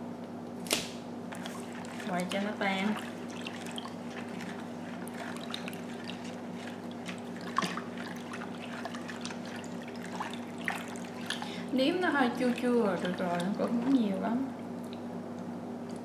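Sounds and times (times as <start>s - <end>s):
water sloshing in a basin: 1.2s - 15.2s.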